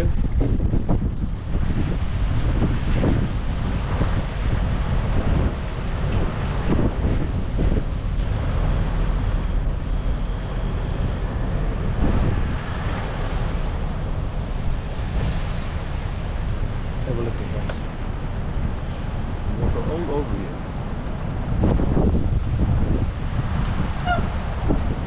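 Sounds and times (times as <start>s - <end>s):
gusty wind buffeting microphone: 0.0s - 25.0s.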